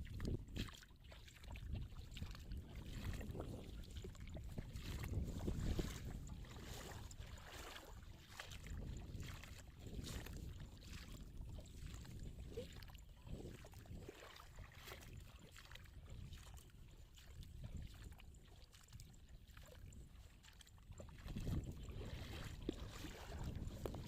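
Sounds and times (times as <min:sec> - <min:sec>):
water sloshing and splashing: 0:00.0 - 0:24.0.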